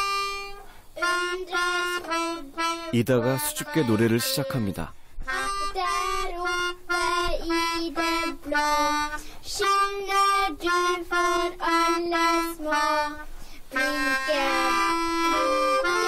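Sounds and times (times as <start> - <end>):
melodica melody: 0.0 - 16.0.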